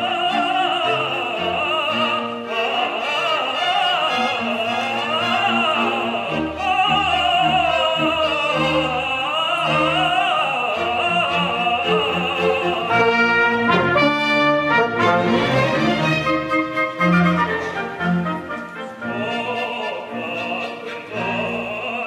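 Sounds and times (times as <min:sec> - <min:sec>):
chamber orchestra: 0:00.0 - 0:22.0
tenor singing opera: 0:00.0 - 0:22.0.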